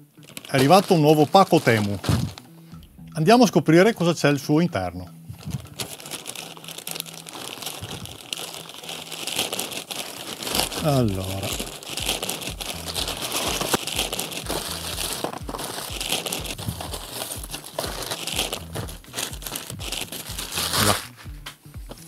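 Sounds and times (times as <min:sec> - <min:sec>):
packaging crinkling and rustling: 0:00.0 - 0:02.5, 0:05.4 - 0:21.3.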